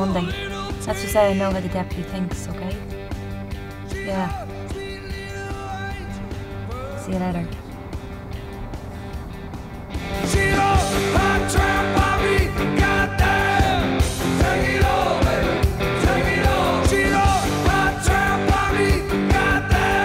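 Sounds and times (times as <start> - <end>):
rock song with singing: 0.0 - 20.0.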